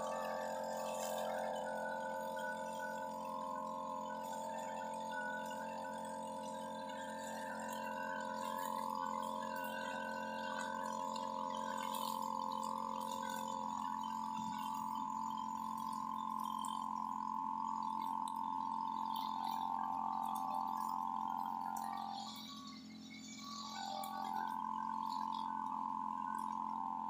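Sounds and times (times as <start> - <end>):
brush cutter high-pitched whine: 0.0 - 27.0.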